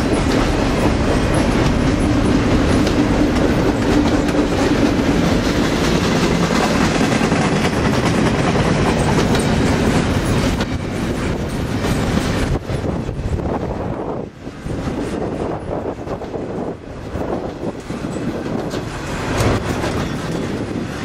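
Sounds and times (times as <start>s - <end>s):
clickety-clack of wheels: 0.0s - 21.0s
train wheels rumbling on rails: 0.0s - 21.0s.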